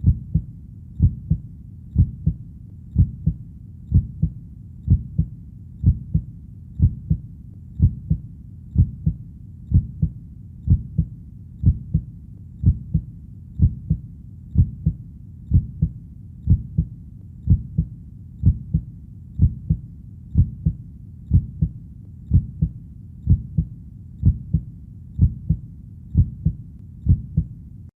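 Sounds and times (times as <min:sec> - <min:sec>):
heartbeat thumps: 0:00.0 - 0:27.6
faint low background rumble: 0:00.0 - 0:27.9.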